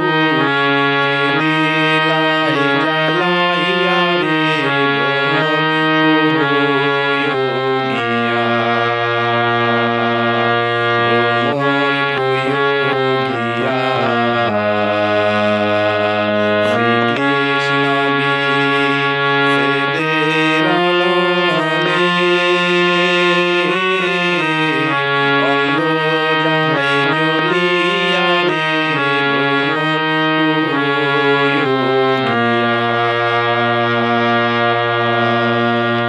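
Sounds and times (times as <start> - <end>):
harmonium-like reed melody: 0.0 - 36.0.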